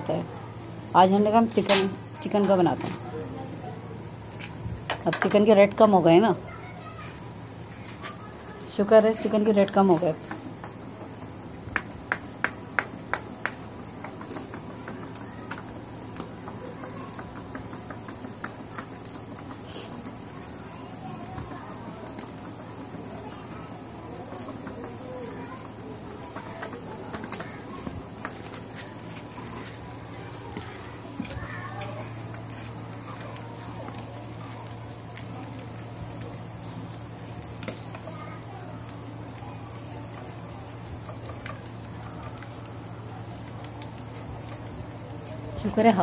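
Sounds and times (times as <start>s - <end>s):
charcoal fire crackling and popping: 0.0s - 46.0s.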